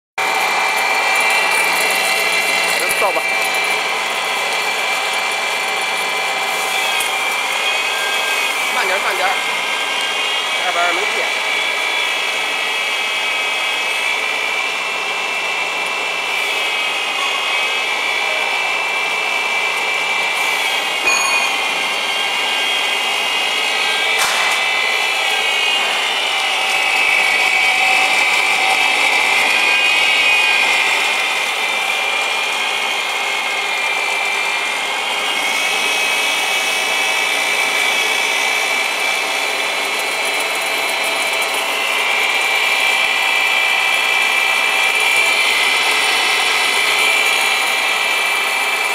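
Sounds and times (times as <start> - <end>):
grinder motor whining: 0.2 - 48.9.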